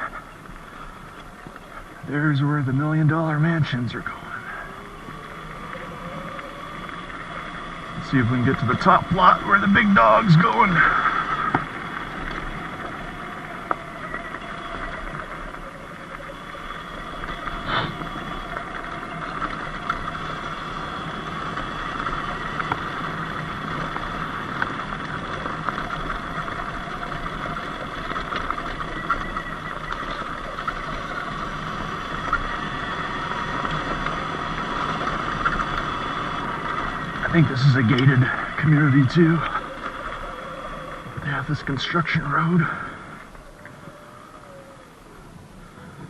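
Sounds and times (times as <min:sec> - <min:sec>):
electric dirt bike humming: 0:00.0 - 0:46.0
small ticks: 0:03.2 - 0:46.0.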